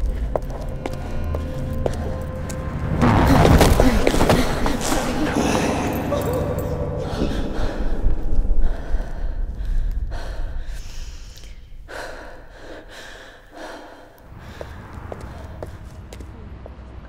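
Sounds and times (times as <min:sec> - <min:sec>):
woman breathing heavily: 0:00.0 - 0:06.1, 0:06.7 - 0:16.2
low rumble: 0:00.0 - 0:17.0.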